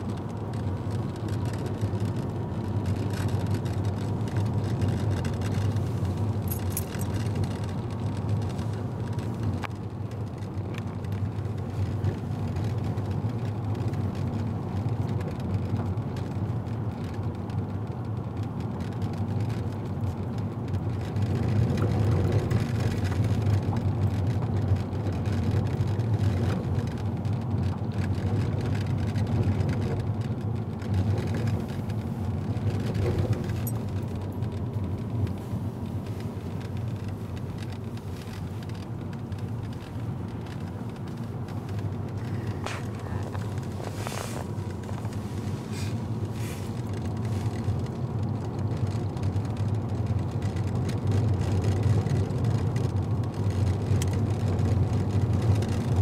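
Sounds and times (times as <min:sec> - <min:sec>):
car engine and tyre hum: 0:00.0 - 0:56.0.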